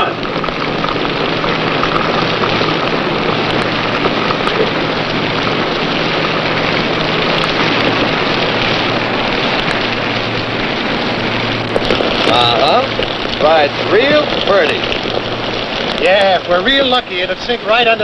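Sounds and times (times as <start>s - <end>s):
heavy rain hiss: 0.0s - 18.0s
low steady hum: 0.0s - 18.0s.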